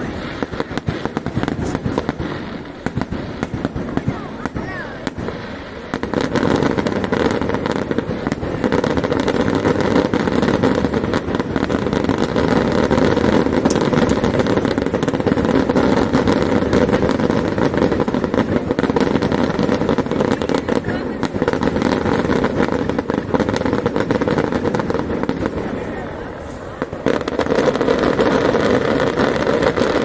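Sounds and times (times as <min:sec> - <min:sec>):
fireworks cracks and bangs: 0:00.0 - 0:30.0
fireworks rumble: 0:00.0 - 0:30.0.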